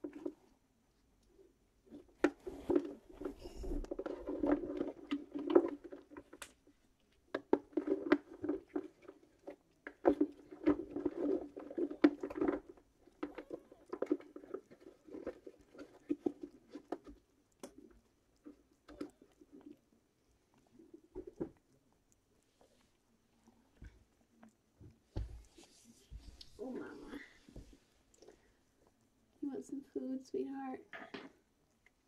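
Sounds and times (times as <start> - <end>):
cat licking and nibbling: 0.0 - 30.7, 31.4 - 32.0.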